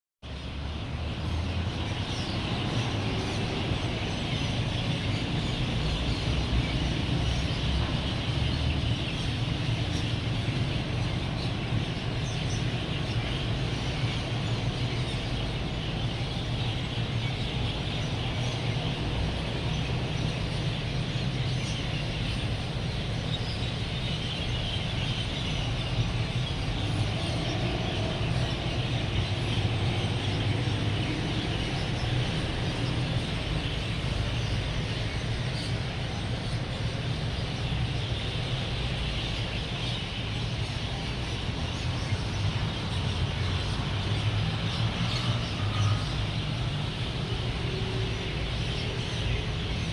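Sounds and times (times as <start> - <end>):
road traffic rumble: 0.2 - 49.9
flock of birds chirping: 0.3 - 49.9.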